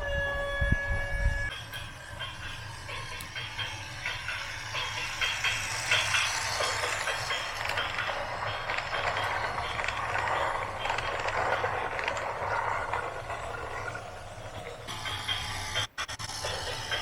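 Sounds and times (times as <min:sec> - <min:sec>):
mechanical rattling and clanking: 0:01.5 - 0:17.0.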